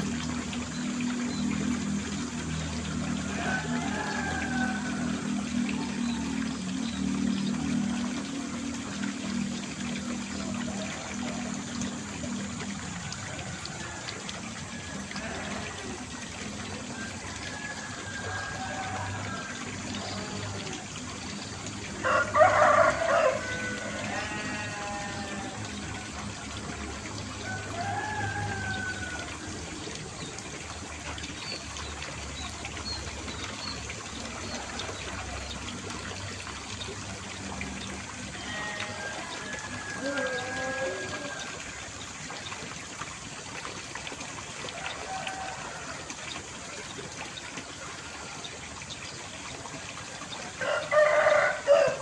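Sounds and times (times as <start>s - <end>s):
water trickling: 0.0s - 52.0s.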